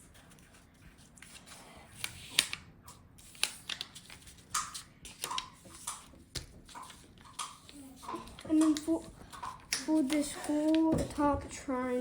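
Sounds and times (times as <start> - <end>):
paper being folded and creased: 0.0 - 11.3.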